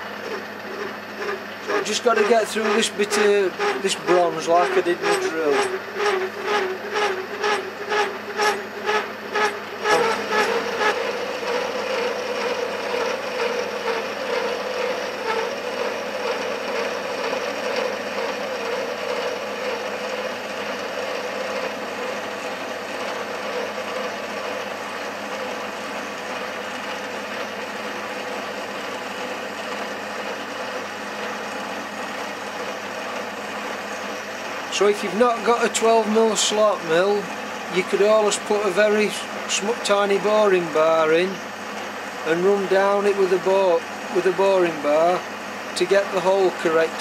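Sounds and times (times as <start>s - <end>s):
mill cutting metal: 0.0s - 47.0s.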